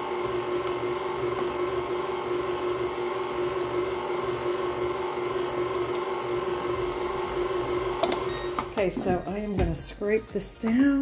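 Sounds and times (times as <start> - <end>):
stand mixer motor running: 0.0 - 8.9.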